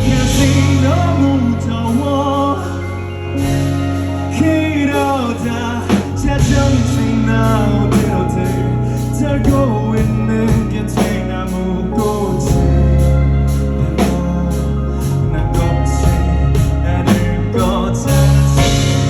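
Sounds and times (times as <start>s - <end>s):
bass guitar: 0.0s - 19.0s
drum kit: 0.0s - 19.0s
guitar: 0.0s - 19.0s
person singing: 0.0s - 19.0s.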